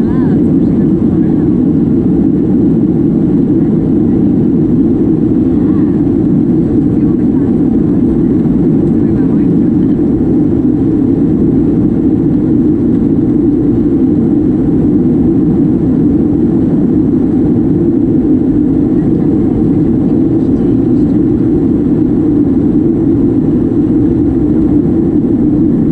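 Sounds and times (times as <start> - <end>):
jet engines roaring in cabin: 0.0 - 25.9.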